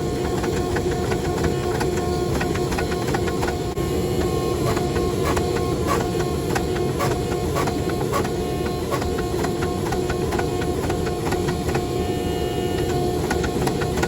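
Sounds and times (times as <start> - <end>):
workshop machine noise: 0.0 - 14.0.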